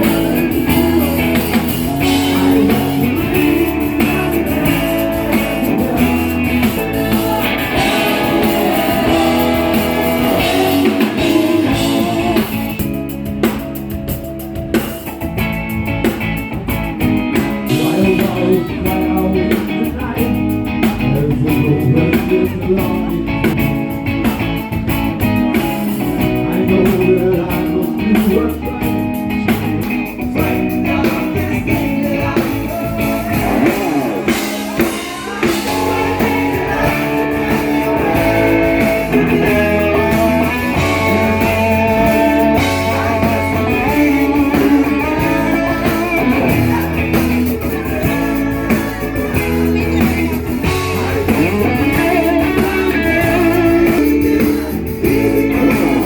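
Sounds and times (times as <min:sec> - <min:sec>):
person singing: 0:00.0 - 0:14.0, 0:17.4 - 0:23.6, 0:25.6 - 0:56.0
drums: 0:00.0 - 0:56.0
guitar: 0:00.0 - 0:56.0.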